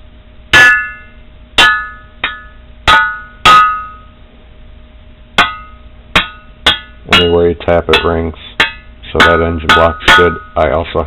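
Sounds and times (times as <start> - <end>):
steel rod striking metal engine block: 0.5 - 4.2, 5.4 - 10.6.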